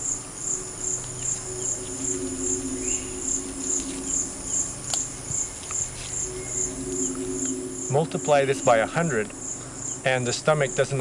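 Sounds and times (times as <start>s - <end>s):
insect chirping: 0.0s - 11.0s
steady high insect buzz: 0.0s - 11.0s.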